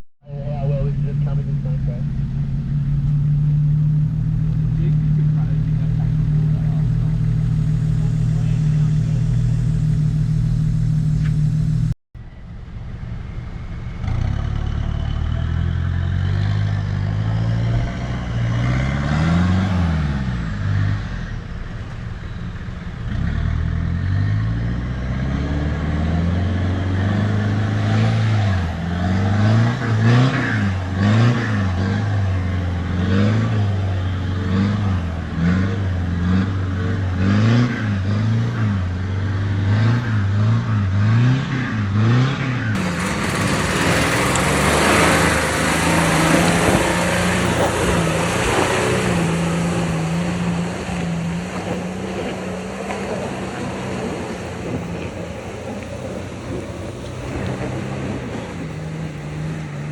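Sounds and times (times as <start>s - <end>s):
vehicle engine revving: 0.0s - 12.0s, 13.2s - 59.9s.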